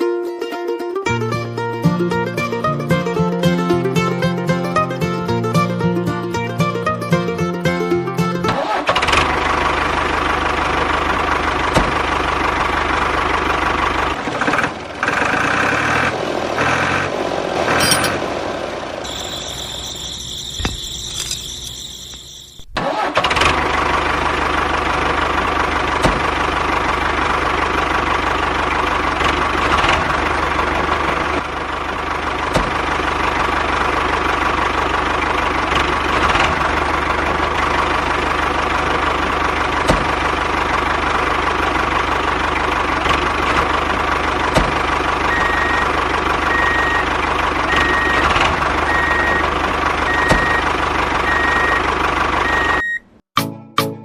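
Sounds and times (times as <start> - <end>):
engine idling: 3.2 - 52.9.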